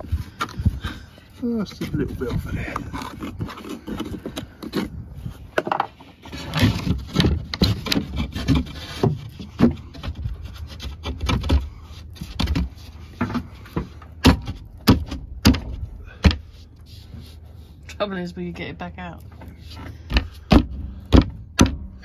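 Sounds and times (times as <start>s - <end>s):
wood knocking and scraping: 0.0s - 17.7s, 19.2s - 22.0s.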